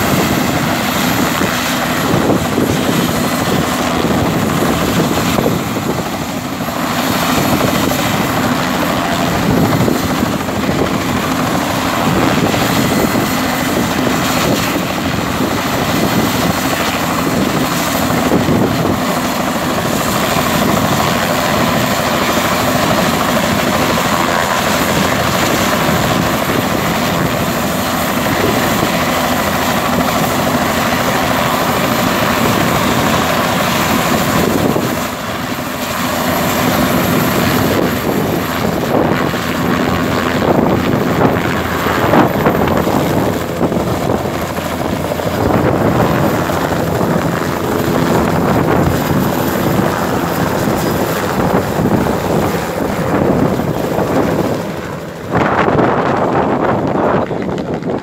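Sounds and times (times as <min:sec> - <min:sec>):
helicopter rotor chop: 0:00.0 - 0:58.0.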